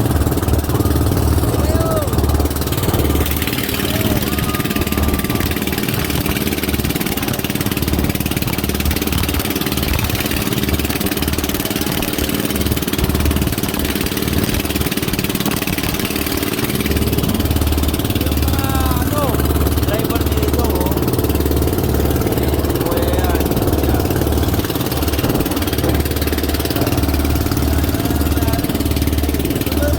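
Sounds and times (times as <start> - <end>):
boat engine running: 0.0 - 29.9.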